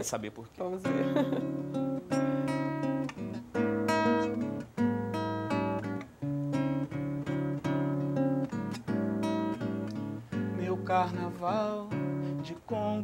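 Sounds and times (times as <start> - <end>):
acoustic guitar strumming chords: 0.8 - 13.0.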